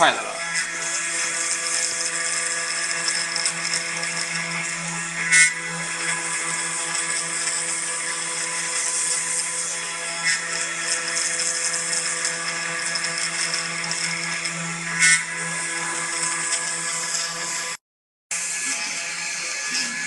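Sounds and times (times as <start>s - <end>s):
cnc spindle humming: 0.0s - 20.0s.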